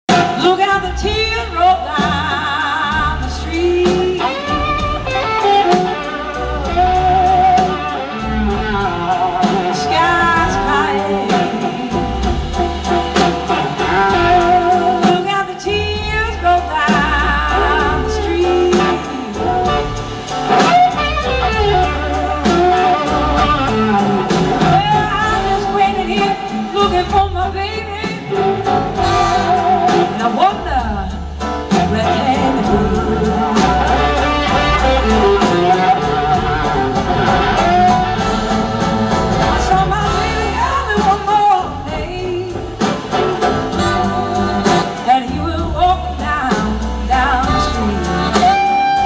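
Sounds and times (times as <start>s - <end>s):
live blues-rock band: 0.1s - 49.0s
wavering electric guitar: 0.1s - 49.0s.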